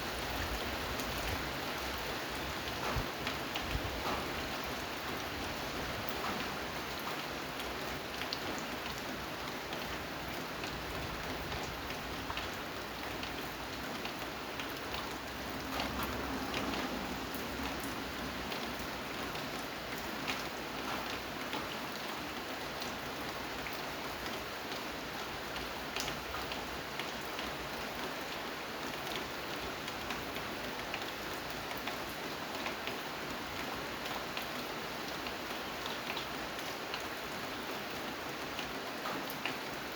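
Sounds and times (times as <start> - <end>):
steady rain falling: 0.0 - 39.9
raindrops ticking on a surface: 0.1 - 39.9.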